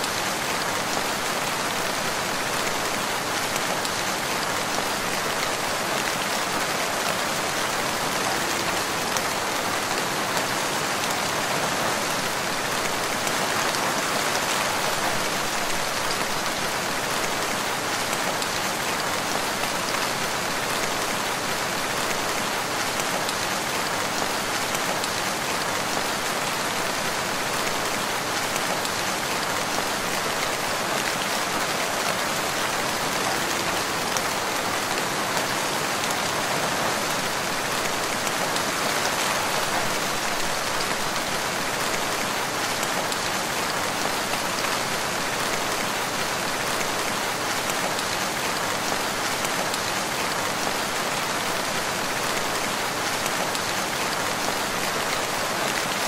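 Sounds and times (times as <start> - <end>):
rain falling on woodland: 0.0 - 56.0.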